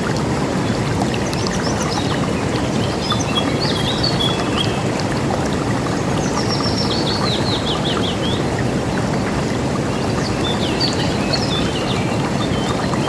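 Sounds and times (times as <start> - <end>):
river water rushing: 0.0 - 13.0
songbirds singing: 0.6 - 5.1, 5.8 - 9.1, 9.8 - 13.0.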